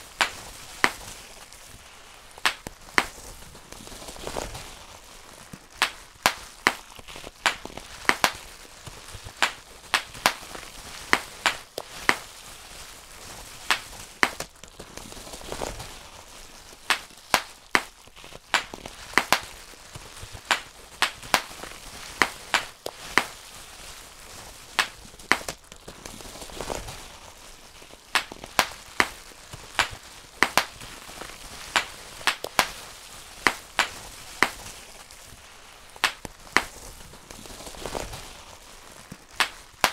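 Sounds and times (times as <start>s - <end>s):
bubble wrap popping: 0.0s - 39.9s.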